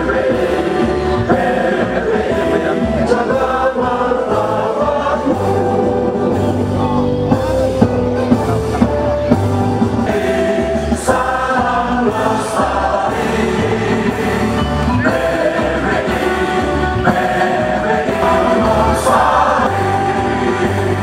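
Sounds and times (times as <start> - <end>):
music with sung vocals: 0.0 - 21.0.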